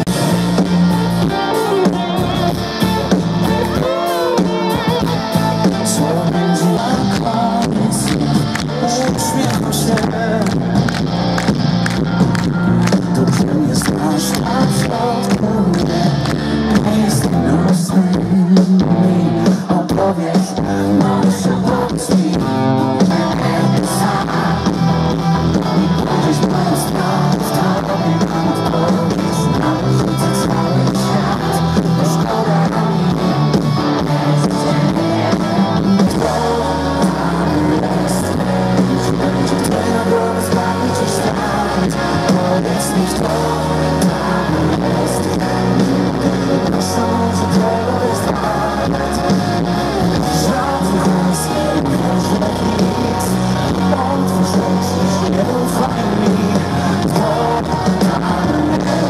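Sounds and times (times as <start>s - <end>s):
live pop rock band playing: 0.0s - 59.0s
man singing lead vocals: 0.0s - 59.0s.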